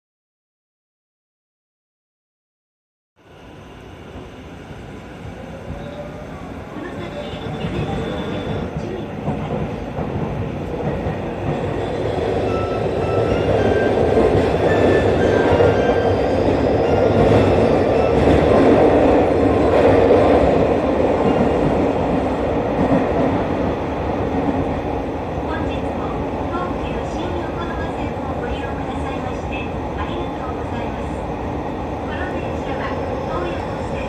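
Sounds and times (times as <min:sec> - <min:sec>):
electric train wheels rumbling: 0:03.2 - 0:34.0.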